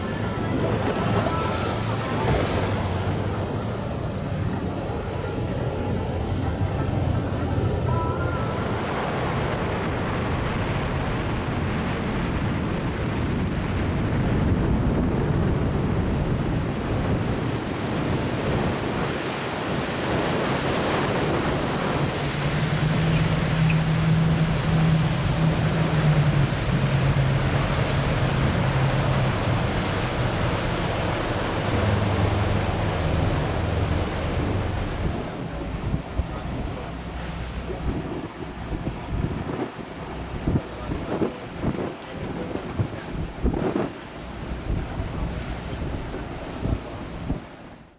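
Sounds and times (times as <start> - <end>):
wind buffeting microphone: 0.0 - 47.6
boat engine drone: 0.0 - 47.8
rushing water: 0.0 - 47.9.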